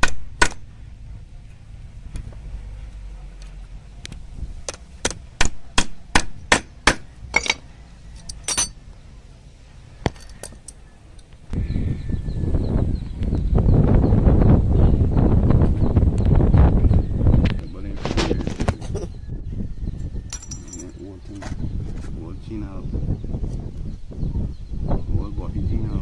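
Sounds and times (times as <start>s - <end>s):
wind rumble on microphone: 0.1s - 5.5s, 9.7s - 26.0s.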